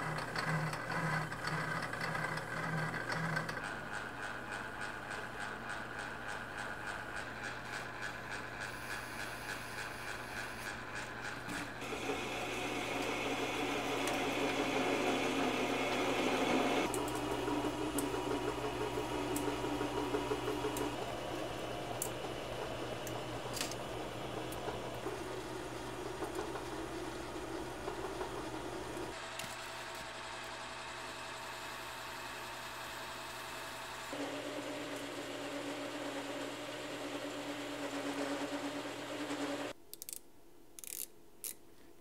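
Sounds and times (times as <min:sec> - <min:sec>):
metal lathe motor hum: 0:00.0 - 0:29.3, 0:30.2 - 0:39.7.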